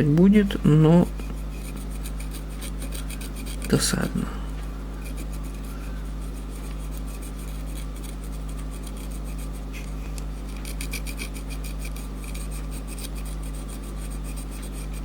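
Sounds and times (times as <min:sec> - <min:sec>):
steady electrical hum: 0:00.0 - 0:15.0
small scraping strokes on circuit board: 0:01.2 - 0:03.8, 0:05.0 - 0:15.0.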